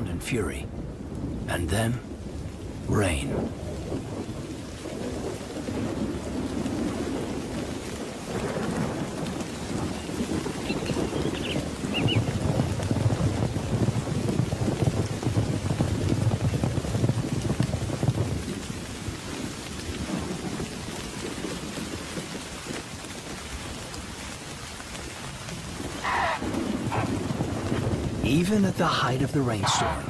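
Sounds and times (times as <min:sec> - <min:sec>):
rain falling steadily: 0:00.0 - 0:30.0
thunder rumbling: 0:00.0 - 0:30.0.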